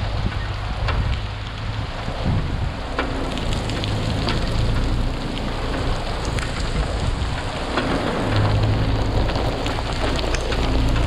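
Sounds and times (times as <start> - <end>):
rain-like hiss: 0.0 - 11.0
vehicle engine humming low: 0.0 - 11.0
water drops hitting vehicle roof: 0.0 - 11.0.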